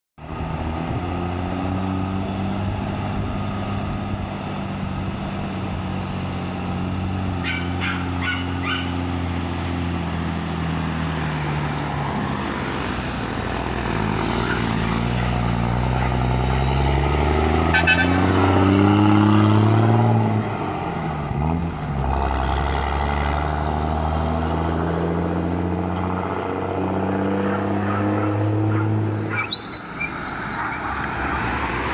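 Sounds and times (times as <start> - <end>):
diesel truck engine revving: 0.2 - 31.9.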